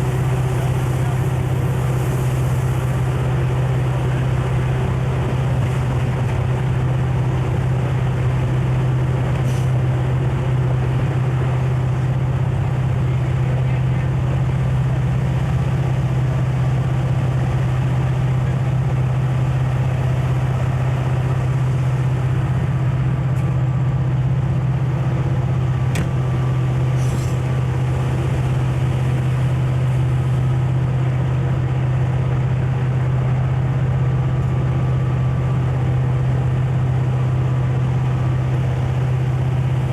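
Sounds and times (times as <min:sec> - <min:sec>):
diesel locomotive droning: 0:00.0 - 0:39.9.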